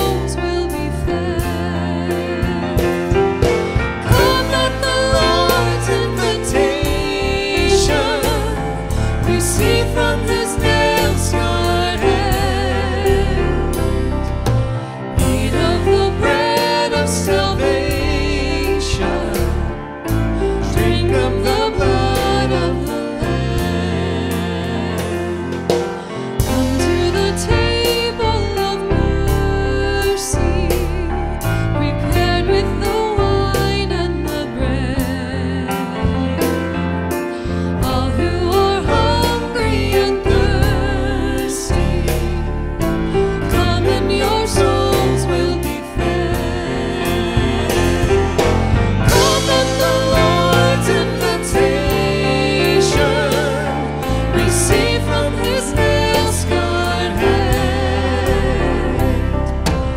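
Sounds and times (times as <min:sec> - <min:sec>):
woman singing a hymn: 0:00.0 - 0:13.8, 0:15.1 - 0:19.7, 0:20.6 - 0:25.6, 0:26.4 - 0:36.6, 0:37.5 - 0:42.6, 0:43.4 - 0:48.3, 0:49.1 - 0:59.3
band with electric bass: 0:00.0 - 0:59.9
grand piano: 0:00.0 - 0:59.9.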